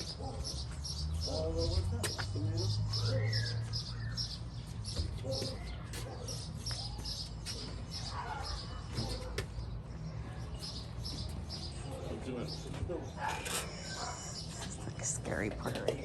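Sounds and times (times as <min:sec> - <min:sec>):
bird chirping: 0:00.0 - 0:15.5.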